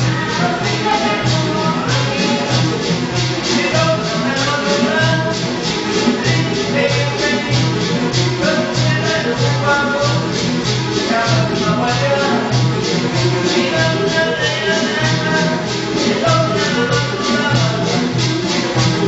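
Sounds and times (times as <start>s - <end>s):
low drum beat: 0.0s - 19.0s.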